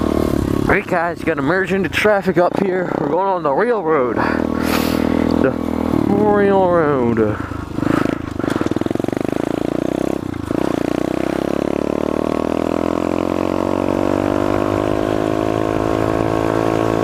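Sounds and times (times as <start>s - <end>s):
motorbike engine accelerating: 0.0s - 17.0s.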